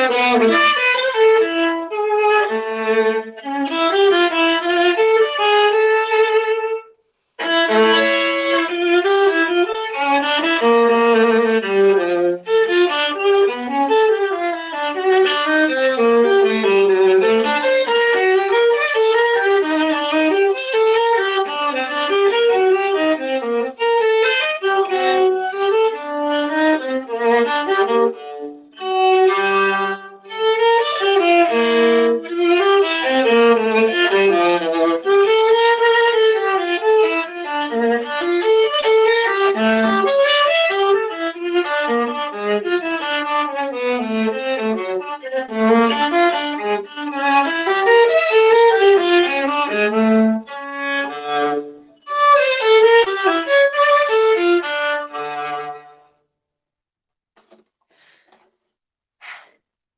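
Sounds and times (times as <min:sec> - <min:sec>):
solo viola playing: 0:00.0 - 0:56.2.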